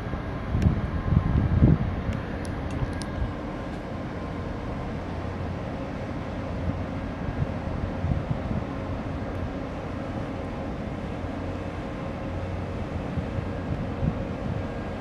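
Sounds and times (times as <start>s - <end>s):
wind buffeting microphone: 0.0s - 4.4s, 5.0s - 10.5s, 12.3s - 15.0s
ship engine hum and rumble: 0.0s - 15.0s.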